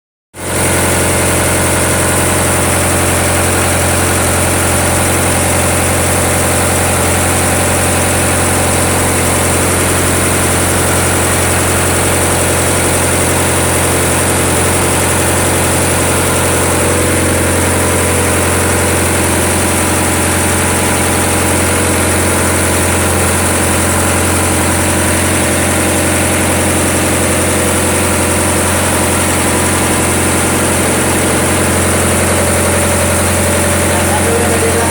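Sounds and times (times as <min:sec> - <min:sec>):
diesel generator engine running: 0:00.4 - 0:34.9.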